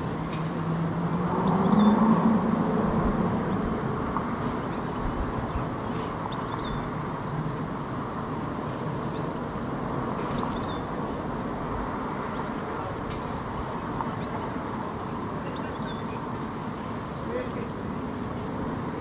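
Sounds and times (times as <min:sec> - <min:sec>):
distant traffic rumble: 0:00.0 - 0:19.0.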